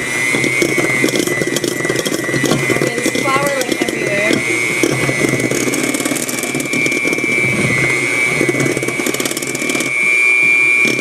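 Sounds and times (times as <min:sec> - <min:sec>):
kitchen mixer motor whining: 0:00.0 - 0:11.0.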